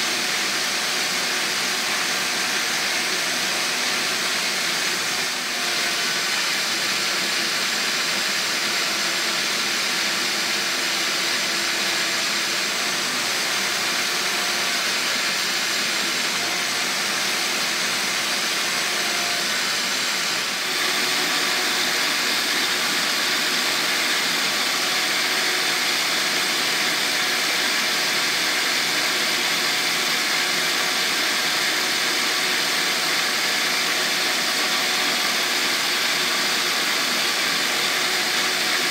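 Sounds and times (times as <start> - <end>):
belt sander grinding wood: 0.0 - 38.9.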